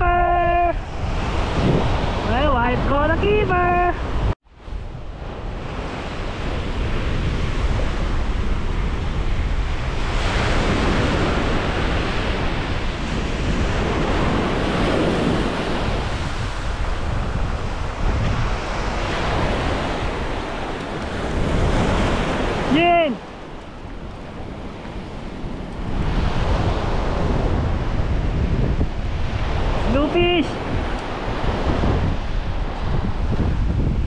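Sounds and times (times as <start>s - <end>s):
wind on microphone: 0.0s - 34.0s
surf breaking on beach: 4.8s - 34.0s.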